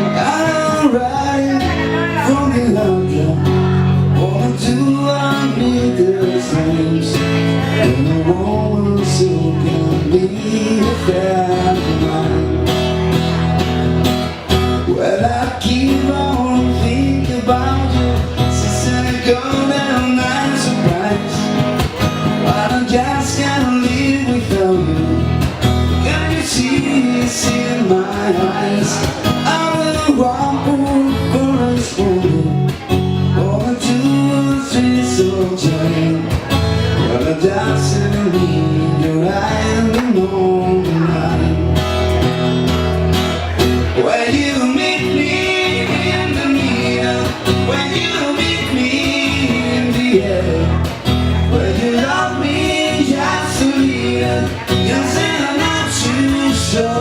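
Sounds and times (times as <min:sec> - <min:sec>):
lead guitar melody: 0:00.0 - 0:57.0
strummed acoustic guitar: 0:00.0 - 0:57.0.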